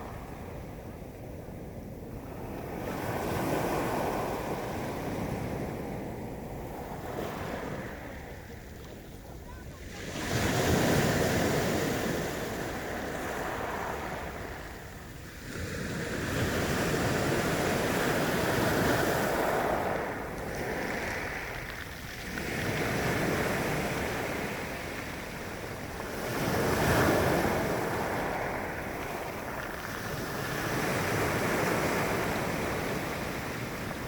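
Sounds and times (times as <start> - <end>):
sea waves washing onto shore: 2.2 - 34.0.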